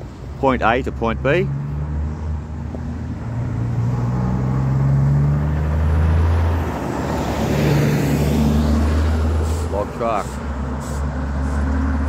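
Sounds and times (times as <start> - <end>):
heavy diesel engines droning: 0.0 - 12.0
road vehicle passing: 0.0 - 12.0.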